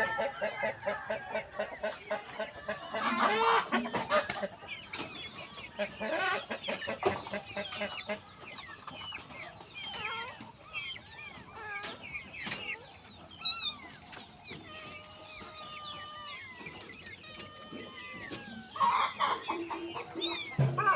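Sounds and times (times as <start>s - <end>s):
chicken-like clucking and chirping: 0.0s - 20.9s.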